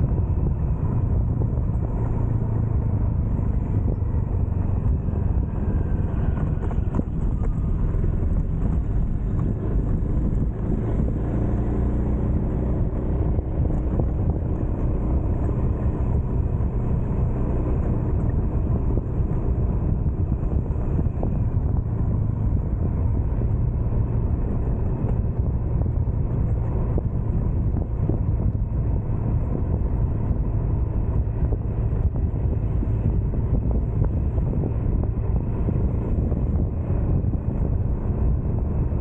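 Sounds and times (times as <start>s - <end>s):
motorcycle engine cruising: 0.0s - 39.0s
wind rushing over microphone: 0.0s - 39.0s.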